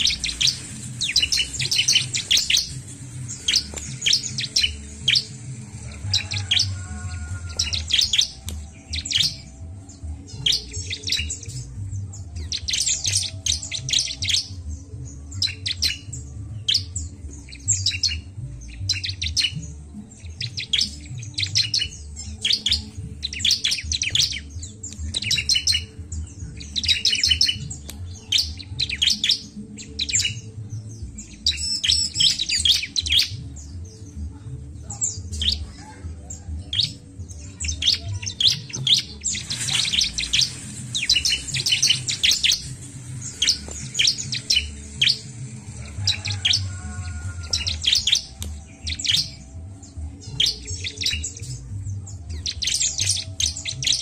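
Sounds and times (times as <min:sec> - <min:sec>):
bird chirping high-pitched: 0:00.0 - 0:34.1, 0:34.9 - 0:54.0.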